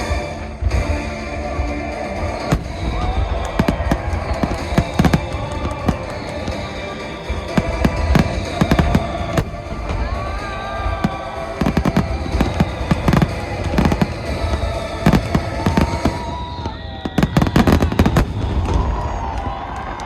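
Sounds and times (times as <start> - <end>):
music playing: 0.0 - 20.0
fireworks bangs: 2.4 - 20.0.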